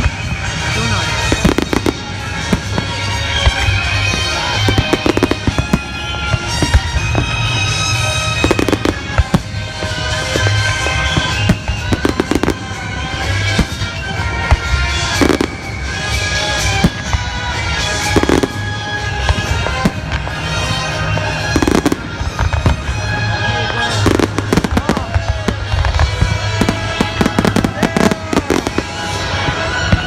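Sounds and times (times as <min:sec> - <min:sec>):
fireworks and firecrackers bangs: 0:00.0 - 0:30.0.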